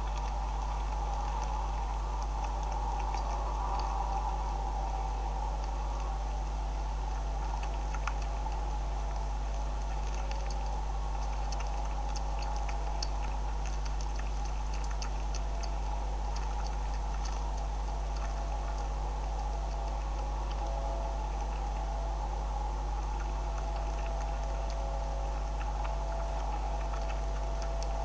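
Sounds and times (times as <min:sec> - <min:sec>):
animals chewing dry feed: 0:00.0 - 0:28.0
low electrical hum: 0:00.0 - 0:28.0.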